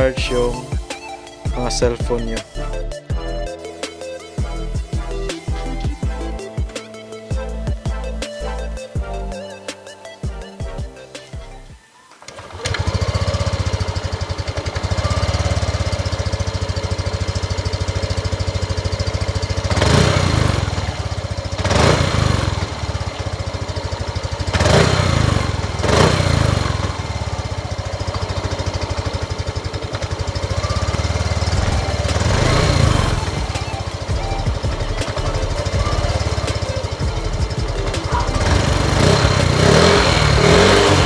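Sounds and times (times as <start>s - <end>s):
scooter engine idling and revving: 4.3s - 9.2s, 10.4s - 41.0s.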